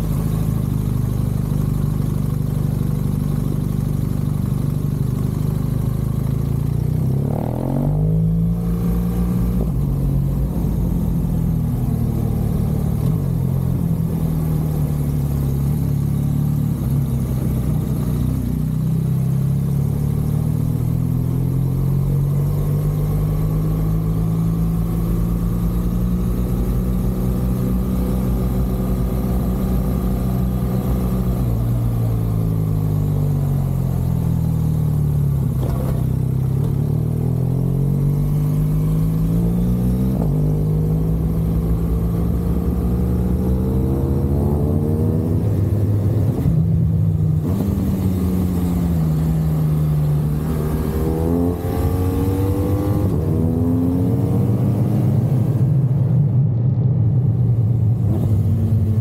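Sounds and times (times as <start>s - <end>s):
motorcycle engine running: 0.0s - 56.2s.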